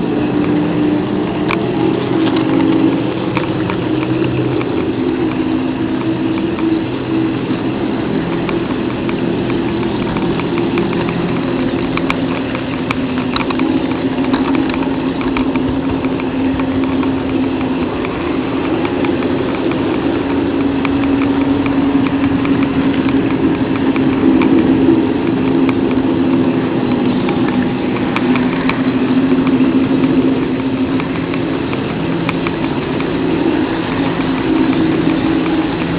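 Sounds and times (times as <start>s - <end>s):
model train motor hum: 0.0s - 35.9s
wheels clicking on rails: 0.0s - 35.9s.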